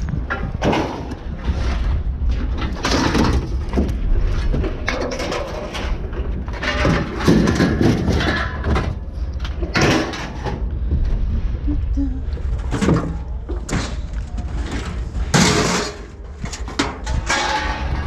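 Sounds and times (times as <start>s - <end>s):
clattering and scraping: 0.0s - 11.6s, 12.4s - 18.0s
engine rumbling: 0.0s - 18.0s.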